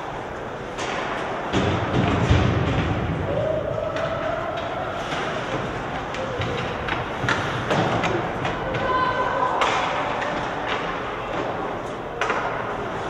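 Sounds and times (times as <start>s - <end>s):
voices echoing in rink: 0.0s - 13.0s
puck and sticks knocking boards: 0.6s - 13.0s.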